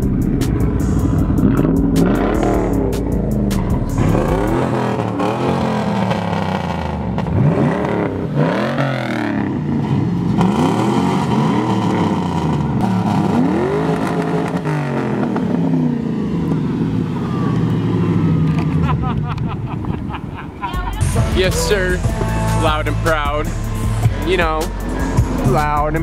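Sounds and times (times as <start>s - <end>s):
hot rod engines revving: 0.0s - 19.4s, 21.0s - 26.0s.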